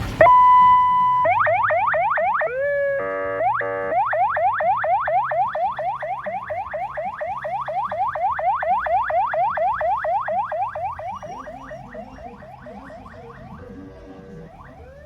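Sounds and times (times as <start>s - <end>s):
car alarm siren: 0.0s - 15.0s.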